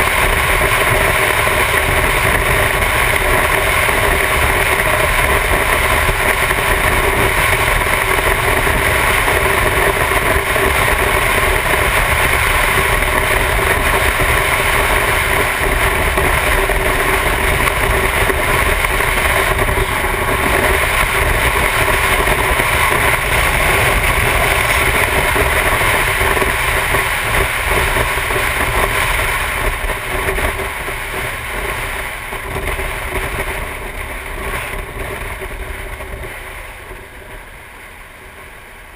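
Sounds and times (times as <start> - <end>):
motorcycle engine drone: 0.0 - 38.9
wind rush on microphone: 0.0 - 38.9.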